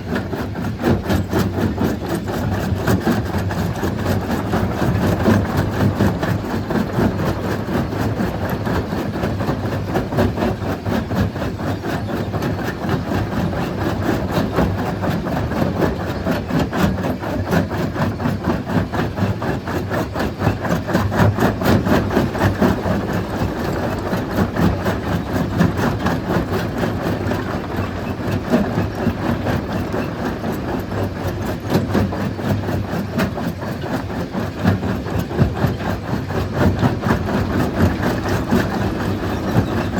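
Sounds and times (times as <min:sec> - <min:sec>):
low machinery drone: 0:00.0 - 0:39.9.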